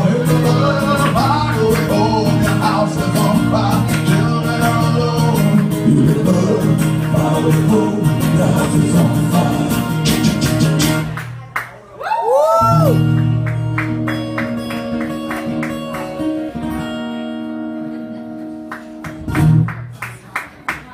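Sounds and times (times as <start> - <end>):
acoustic guitars strumming: 0.0 - 11.4, 12.6 - 20.0.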